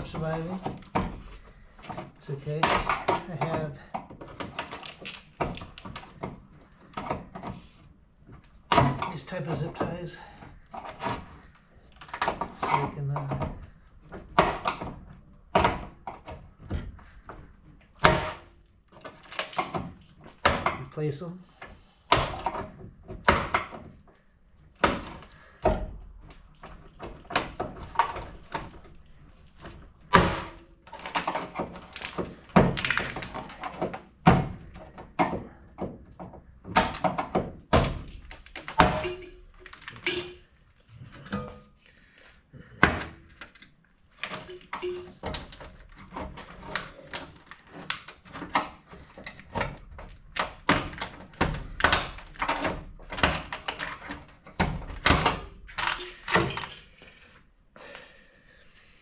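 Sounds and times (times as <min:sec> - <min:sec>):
tools clicking and clunking: 0:00.0 - 0:57.2.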